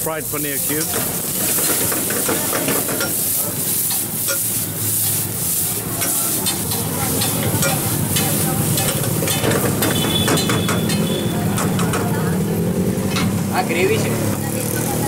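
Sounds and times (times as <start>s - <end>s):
frying sizzle in oil: 0.0s - 15.0s.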